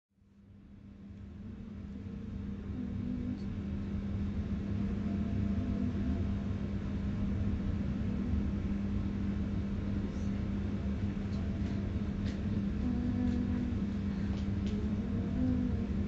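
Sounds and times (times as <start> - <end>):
low mechanical hum: 0.2 - 16.0.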